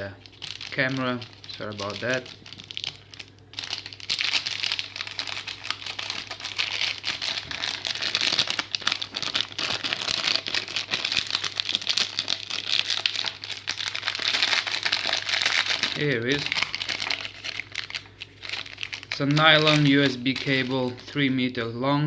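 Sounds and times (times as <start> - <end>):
packaging bag crinkling: 0.0 - 21.7.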